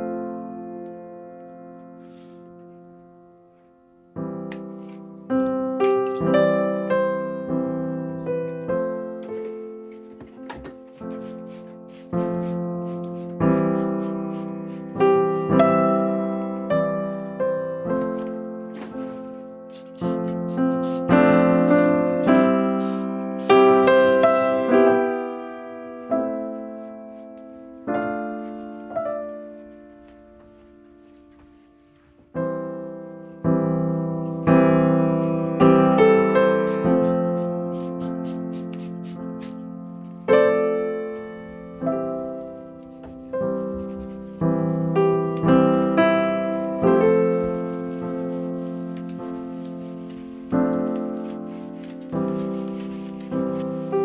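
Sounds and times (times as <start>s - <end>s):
slow gentle piano piece: 0.0s - 54.0s.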